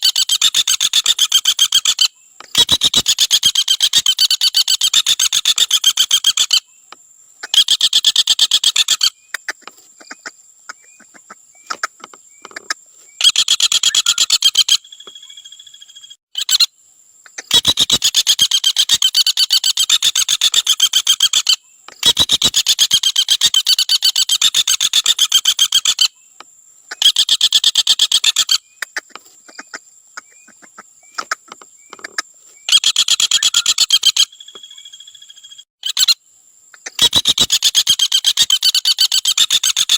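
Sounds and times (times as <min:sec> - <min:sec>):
woodpecker rattle call: 0:00.0 - 0:39.9.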